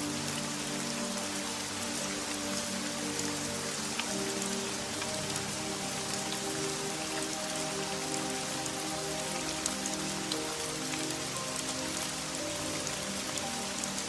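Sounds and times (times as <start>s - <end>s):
soft music of low notes: 0.0s - 14.0s
steady rain: 0.0s - 14.0s.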